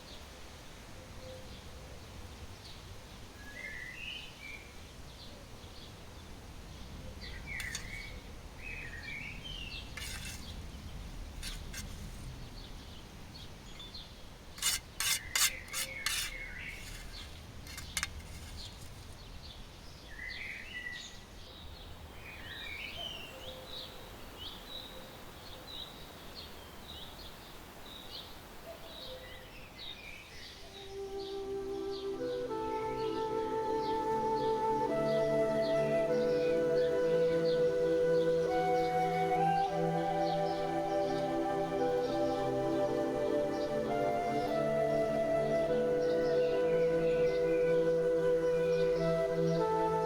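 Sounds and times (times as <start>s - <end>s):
small birds chirping: 1.0s - 50.0s.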